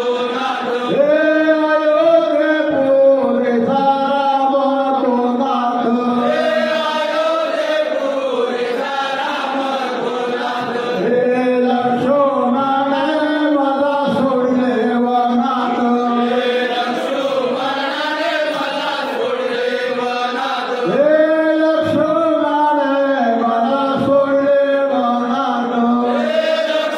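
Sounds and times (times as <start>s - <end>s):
men chanting in unison: 0.0s - 26.9s.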